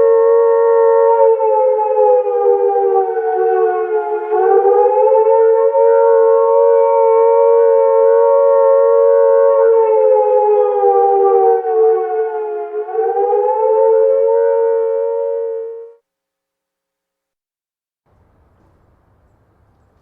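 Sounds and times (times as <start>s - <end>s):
two-tone air raid siren howling: 0.0s - 16.0s.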